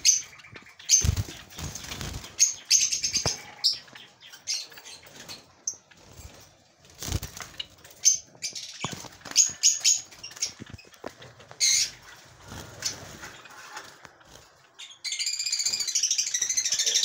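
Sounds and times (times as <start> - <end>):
birds fluttering: 0.0 - 16.6
sparrows chirping: 0.0 - 17.0.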